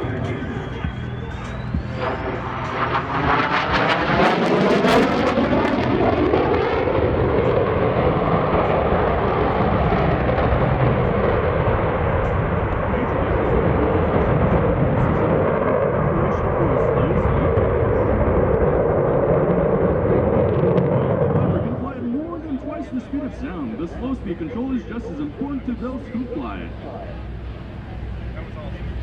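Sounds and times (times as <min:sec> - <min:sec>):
jet engine roaring: 0:00.0 - 0:29.0.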